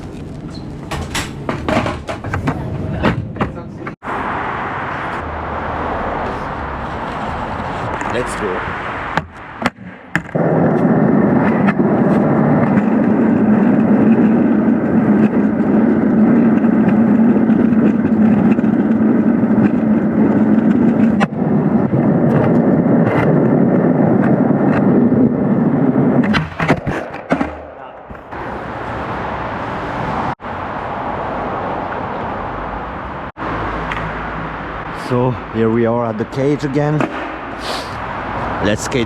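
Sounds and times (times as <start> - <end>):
skateboard wheels rolling on pavement: 0.0 - 39.0.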